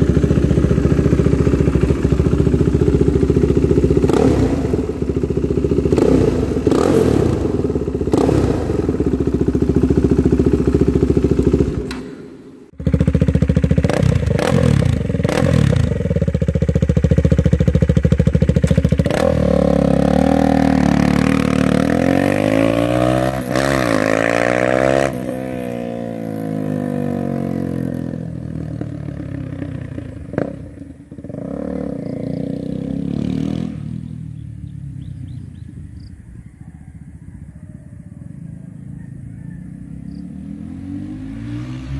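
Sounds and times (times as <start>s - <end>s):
motorcycle engine running loud: 0.0s - 12.0s, 12.7s - 41.9s
motorcycle passing by: 0.0s - 41.9s.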